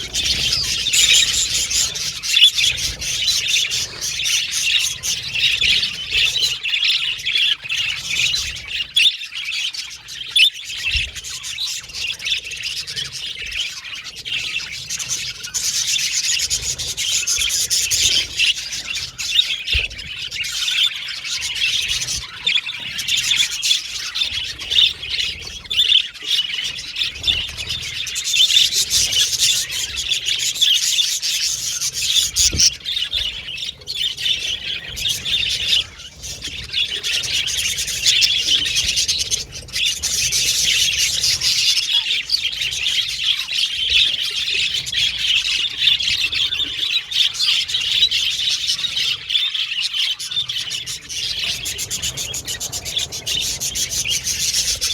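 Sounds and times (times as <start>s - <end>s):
bird squawks: 0.0s - 54.9s
budgerigars chirping and chattering: 0.0s - 54.9s.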